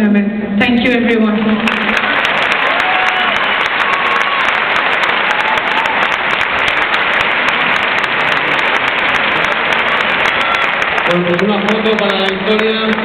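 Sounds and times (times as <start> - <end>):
crowd applauding: 1.3 - 13.0.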